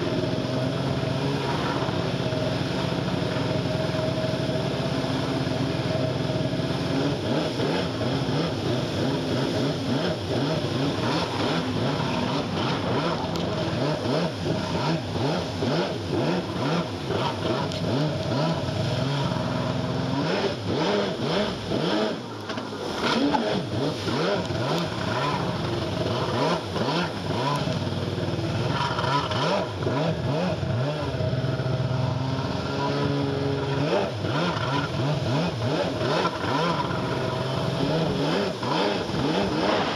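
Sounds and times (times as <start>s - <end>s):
jet ski engine revving: 0.0s - 39.9s
water splashing against hull: 0.0s - 39.9s.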